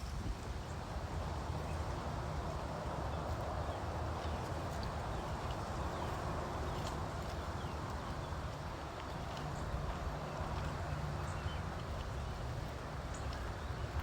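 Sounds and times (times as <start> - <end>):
footsteps on dry trail: 0.0 - 14.0
low rumble of wind: 0.0 - 14.0.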